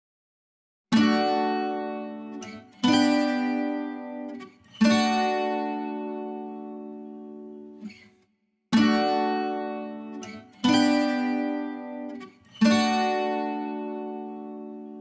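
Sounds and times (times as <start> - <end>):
strummed guitar chords: 1.0 - 8.0, 8.8 - 15.0.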